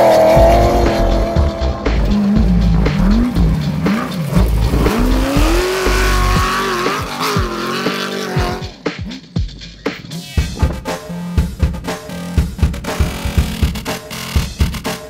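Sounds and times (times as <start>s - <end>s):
engine revving: 0.0s - 9.0s, 10.2s - 15.0s.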